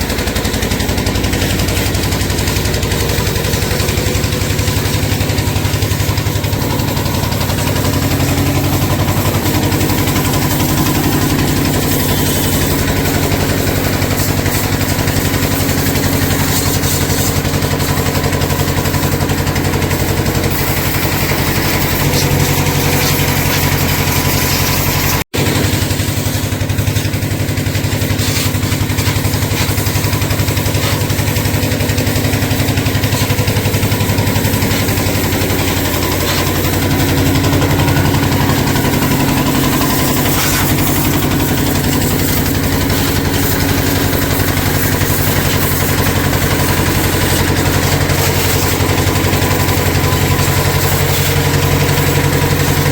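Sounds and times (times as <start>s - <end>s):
motor humming with hiss: 0.0s - 52.9s.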